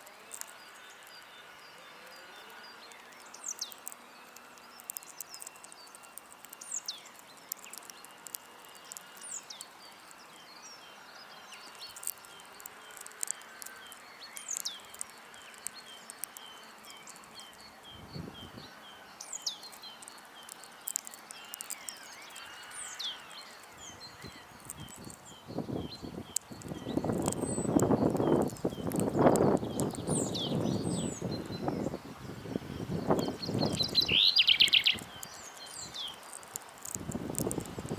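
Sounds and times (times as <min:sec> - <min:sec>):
songbirds chirping: 0:00.0 - 0:37.9
sharp clicks: 0:02.4 - 0:10.2, 0:11.5 - 0:17.8, 0:19.2 - 0:31.6, 0:33.0 - 0:37.9.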